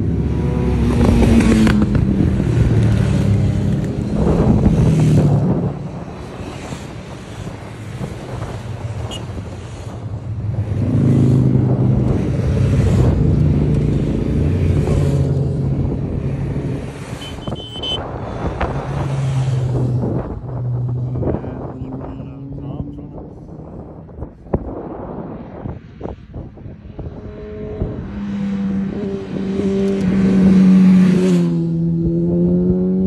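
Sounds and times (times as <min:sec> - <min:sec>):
motorcycles passing at speed: 0:00.0 - 0:33.0
wind buffeting microphone: 0:00.1 - 0:17.0, 0:18.0 - 0:28.2.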